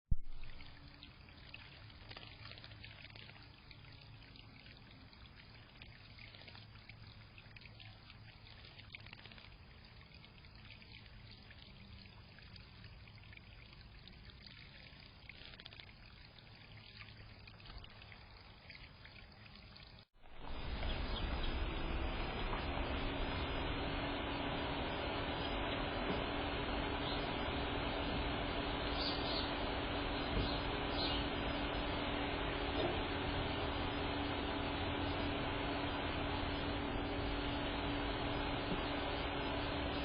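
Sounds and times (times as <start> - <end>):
water trickling into birdbath: 0.1 - 40.0.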